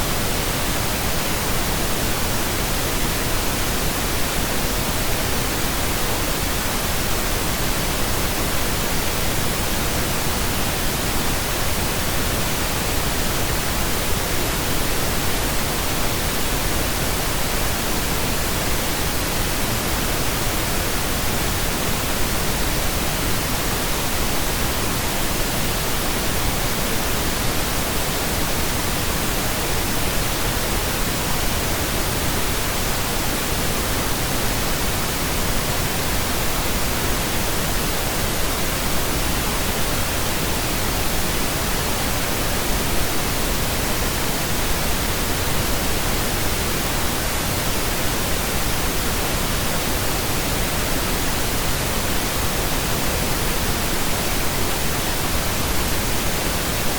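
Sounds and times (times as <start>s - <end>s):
pink noise hiss: 0.0s - 56.9s.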